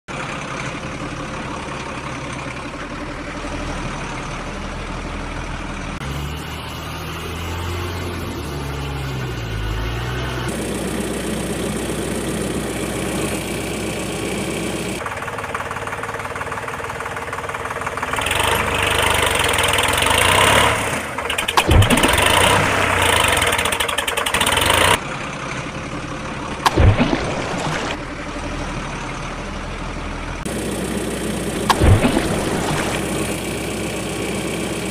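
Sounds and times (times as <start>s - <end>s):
truck engine running: 0.1s - 34.9s.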